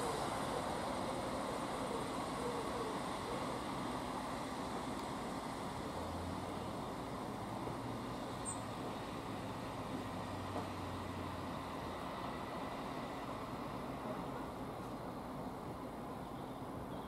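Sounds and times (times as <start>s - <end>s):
train engines rumbling: 0.0s - 17.0s.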